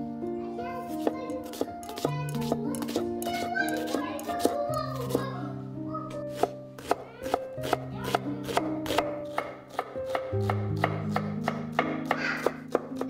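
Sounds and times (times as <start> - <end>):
background music: 0.0 - 13.0
knife chopping on wooden board: 0.9 - 5.2, 6.3 - 13.0.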